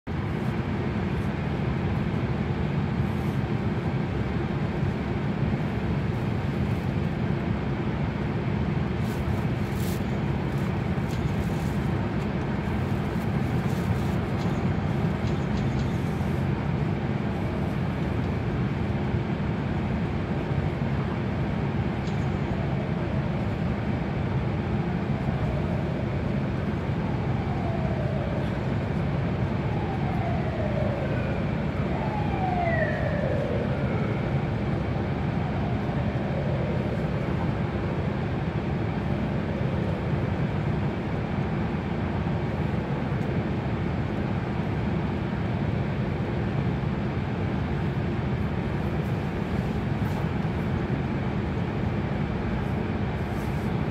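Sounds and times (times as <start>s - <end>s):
car tyres and engine rumble: 0.1s - 53.9s.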